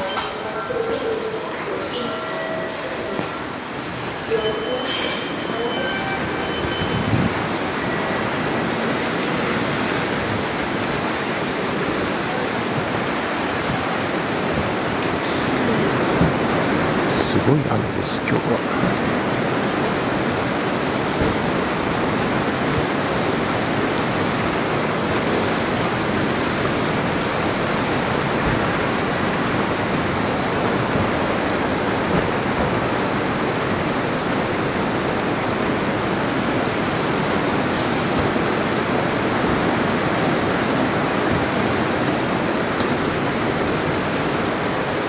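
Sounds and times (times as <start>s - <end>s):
rain falling steadily: 0.0s - 45.0s.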